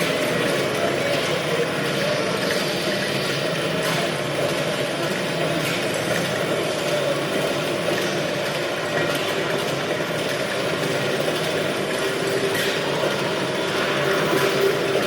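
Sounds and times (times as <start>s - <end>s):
dense noise texture: 0.0s - 15.0s.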